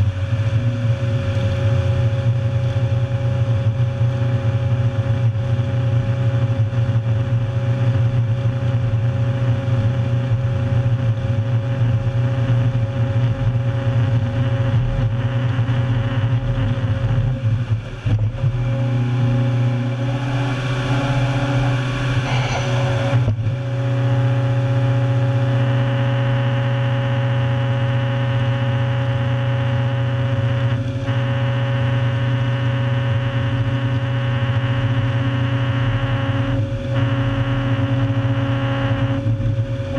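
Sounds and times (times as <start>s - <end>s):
diesel engine droning under load: 0.0s - 39.9s.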